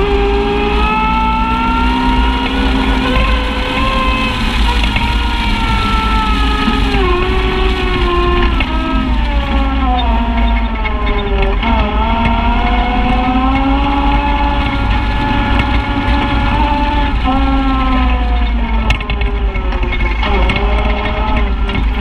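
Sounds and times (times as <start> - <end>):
utility vehicle engine revving: 0.0 - 22.0.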